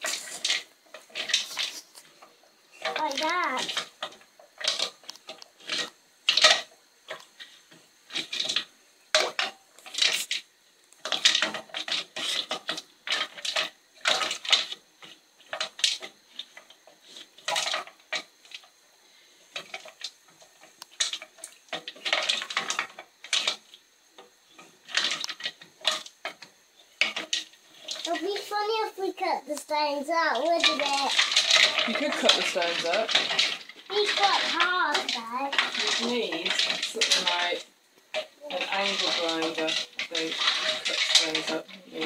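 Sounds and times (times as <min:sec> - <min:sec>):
stones scraping in metal saucepan: 0:00.0 - 0:42.0.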